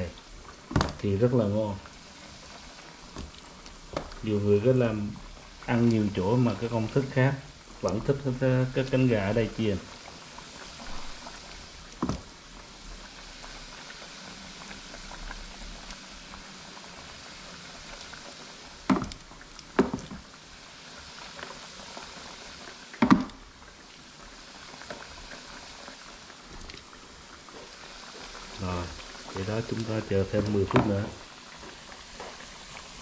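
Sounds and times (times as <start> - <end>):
chicken deep-frying in oil: 0.0 - 33.0.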